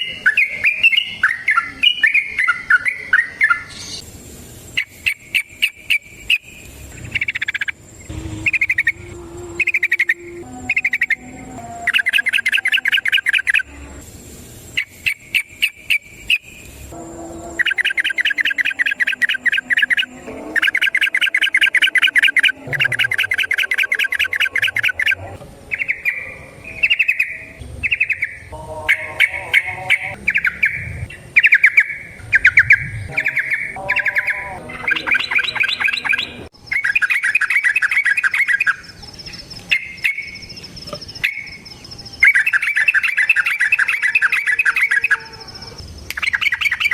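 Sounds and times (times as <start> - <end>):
bulbul singing rapid chattering song: 0.0 - 4.1, 4.7 - 46.9.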